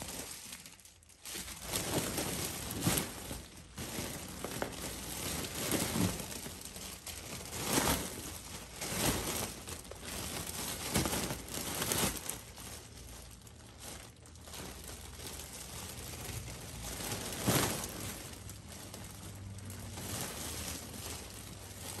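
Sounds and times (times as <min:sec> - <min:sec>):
foil balloon crinkling: 0:00.0 - 0:22.0.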